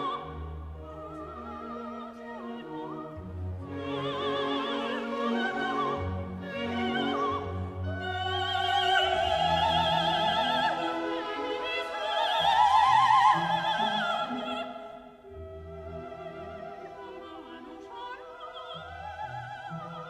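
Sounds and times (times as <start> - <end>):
classical orchestra: 0.0 - 20.0
operatic singing: 0.0 - 20.0.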